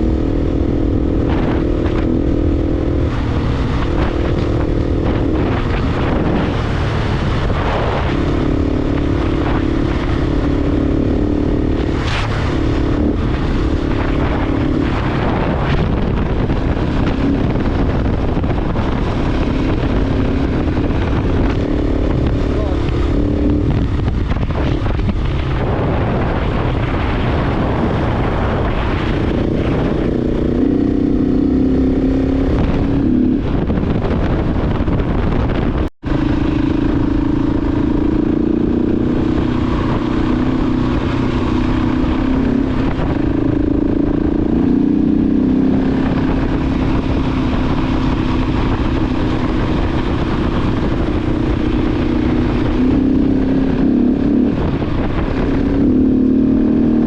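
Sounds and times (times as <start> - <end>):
motorcycle engine running: 0.0 - 57.0
wind noise: 0.0 - 57.0.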